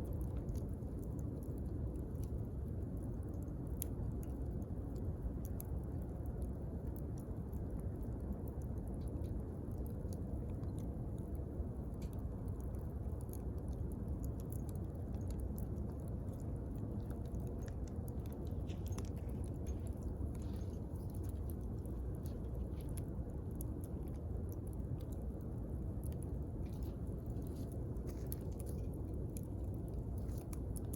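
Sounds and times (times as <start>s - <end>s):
bonfire crackling and snapping: 0.0s - 30.9s.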